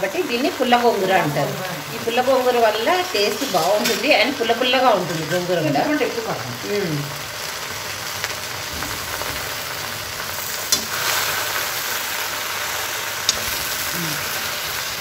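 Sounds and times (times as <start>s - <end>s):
leaves sizzling in oil: 0.0s - 15.0s.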